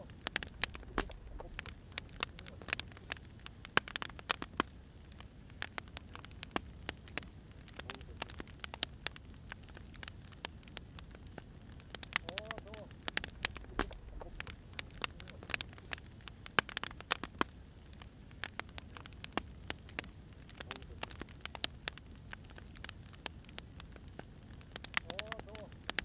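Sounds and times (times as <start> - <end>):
firewood crackling: 0.0 - 26.0
low rumble of flame: 0.0 - 26.0
sharp pops of fire: 0.0 - 26.0.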